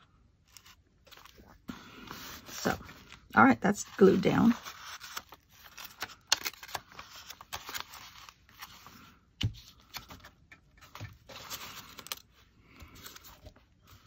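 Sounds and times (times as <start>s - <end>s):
paper pages rustling: 0.4s - 14.0s.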